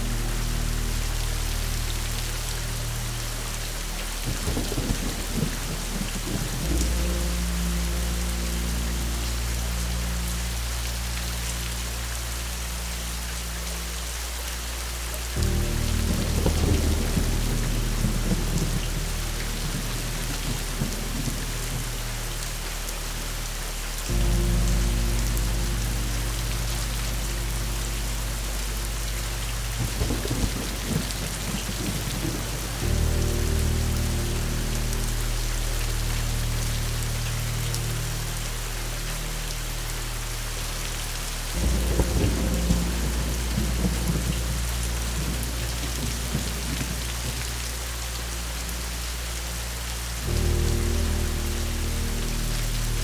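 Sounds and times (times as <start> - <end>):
thunder rumbling: 0.0 - 14.0, 15.0 - 53.0
soft low sustained tones: 0.0 - 53.0
steady rain: 0.0 - 53.0.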